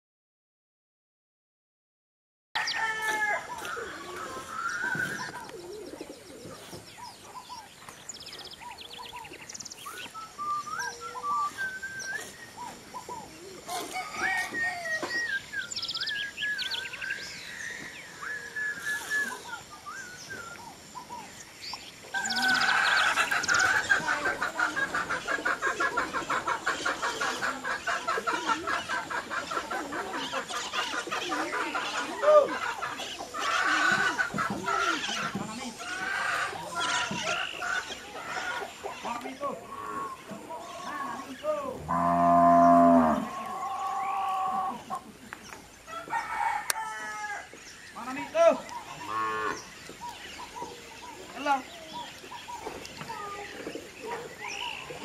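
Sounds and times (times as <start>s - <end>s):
birds calling: 2.6s - 55.0s.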